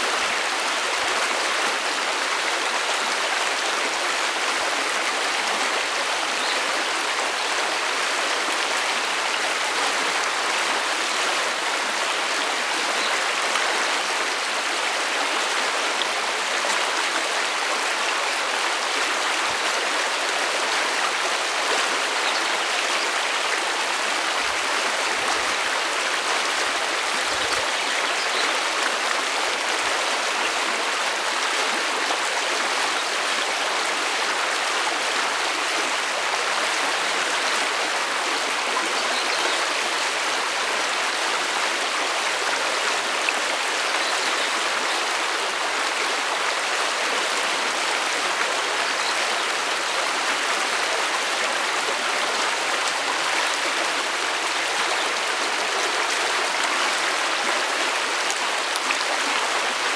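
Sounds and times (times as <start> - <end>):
stream rushing over stones: 0.0 - 59.9.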